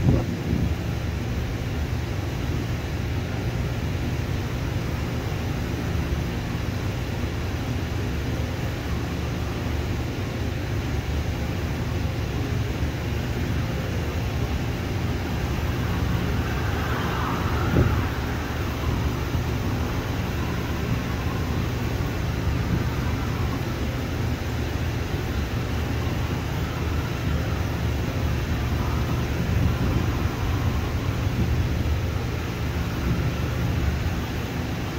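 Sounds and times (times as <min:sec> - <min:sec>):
distant airliner taxiing: 0:00.0 - 0:34.9
low airport rumble: 0:00.0 - 0:34.9.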